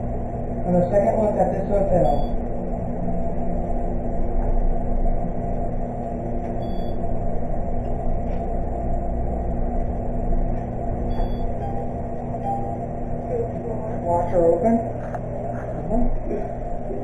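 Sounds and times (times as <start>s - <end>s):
elevator hum and rumble: 0.0s - 17.0s.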